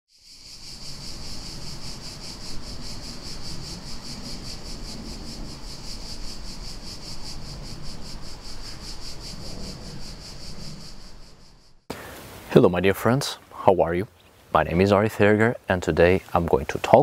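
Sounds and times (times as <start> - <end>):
insects chirring: 0.1 - 17.0.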